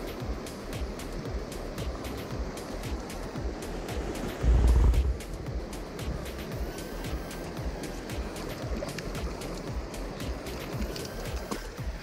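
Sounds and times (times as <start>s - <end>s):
background music with steady beat: 0.0s - 12.0s
stream water rushing: 0.0s - 12.0s.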